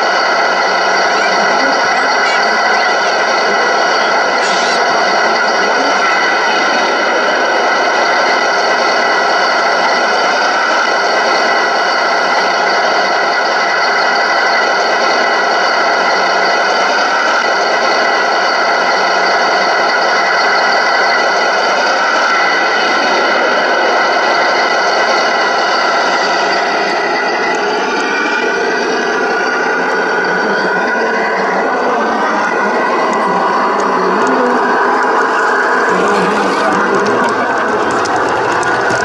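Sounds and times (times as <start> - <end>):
toy truck motor whining drone: 0.0 - 13.3, 18.1 - 39.0.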